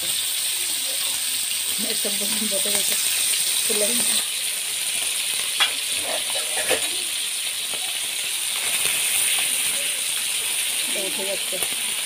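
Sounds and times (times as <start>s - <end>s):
fish frying in hot oil: 0.0s - 12.0s
sharp oil crackles: 0.0s - 12.0s.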